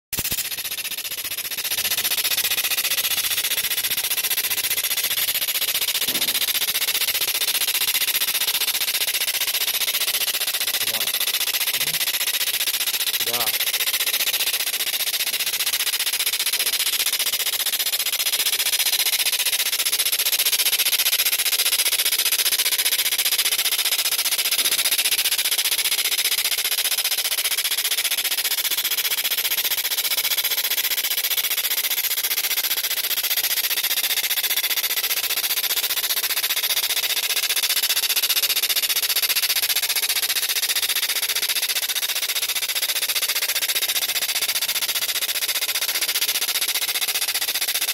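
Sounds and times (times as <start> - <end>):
laser crackling with rapid pops: 0.1 - 47.9.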